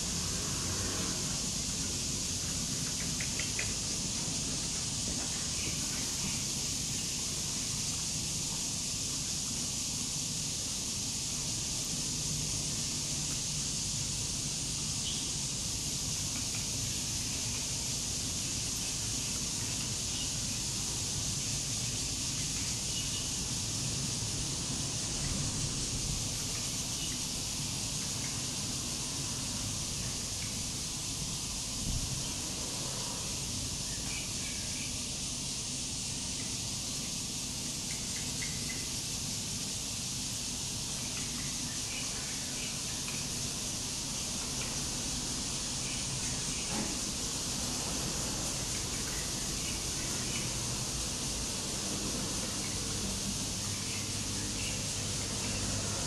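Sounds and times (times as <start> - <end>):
high-pitched hiss: 0.0 - 56.0
insects droning: 0.0 - 56.0.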